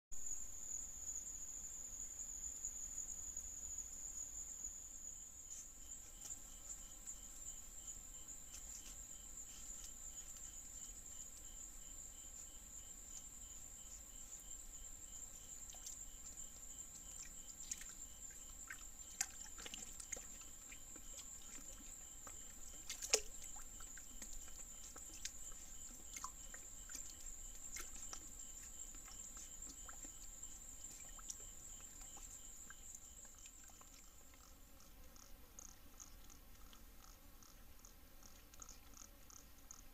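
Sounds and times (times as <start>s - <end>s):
crickets chirping: 0.1s - 39.9s
insect pulsing low: 0.2s - 39.9s.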